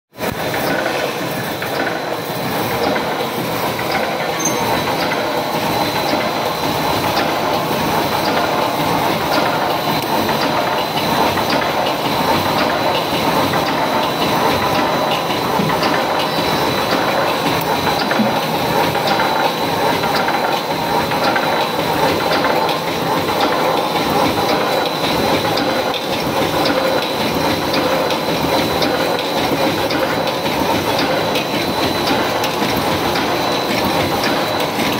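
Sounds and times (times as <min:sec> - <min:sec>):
machine clattering: 0:00.2 - 0:34.9
regular repeating clack: 0:00.3 - 0:34.9.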